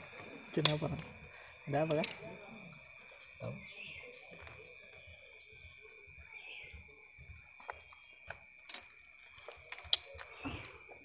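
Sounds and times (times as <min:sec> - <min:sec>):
steady high-pitched tone: 0:00.0 - 0:11.0.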